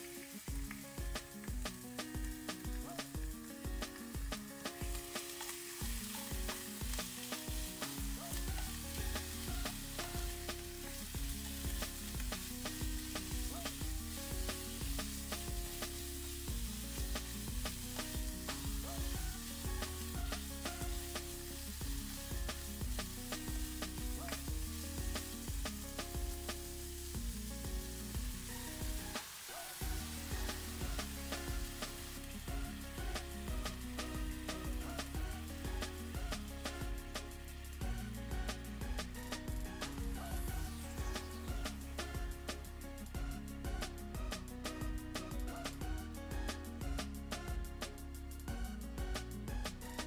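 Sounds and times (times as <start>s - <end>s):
chicken sizzling in a wok: 0.0s - 50.0s
soft background music: 0.0s - 50.0s.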